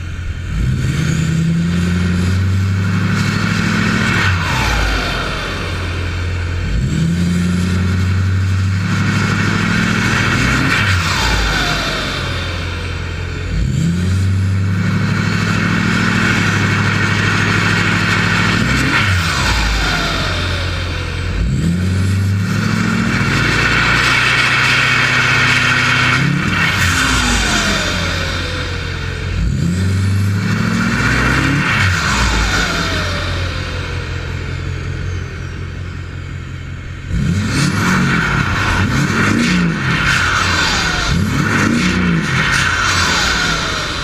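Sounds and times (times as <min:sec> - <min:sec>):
diesel engine revving: 0:00.0 - 0:44.0.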